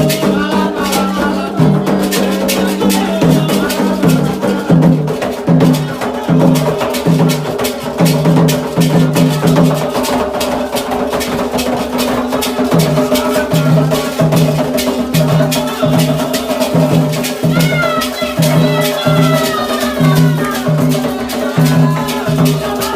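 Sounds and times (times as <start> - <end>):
hand drums beating a rhythm: 0.0 - 22.9
sharp clicking percussion: 0.0 - 22.9.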